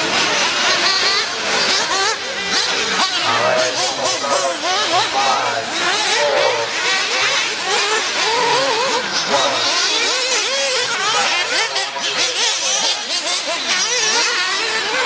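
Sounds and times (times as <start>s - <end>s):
model car engines revving: 0.0s - 15.0s.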